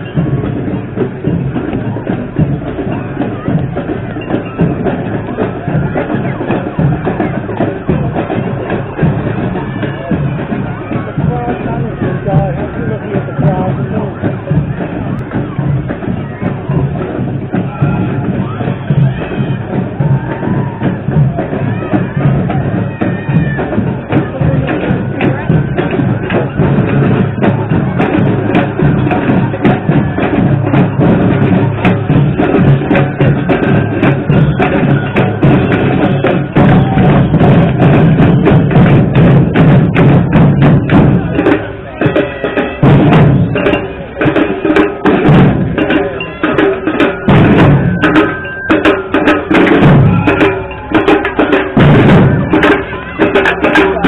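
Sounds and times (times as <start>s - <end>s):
drum-led percussion music: 0.0s - 54.0s.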